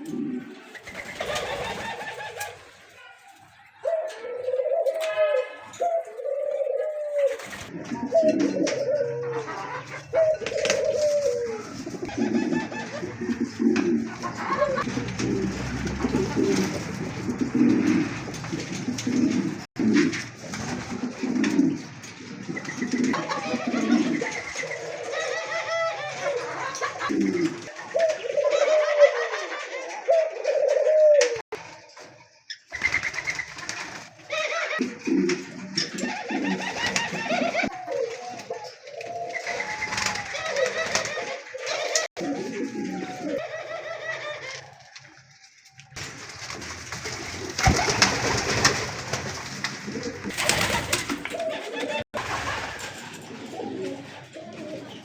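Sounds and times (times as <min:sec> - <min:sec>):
caged birds chattering: 0:00.0 - 0:55.0
doves cooing: 0:00.0 - 0:55.0.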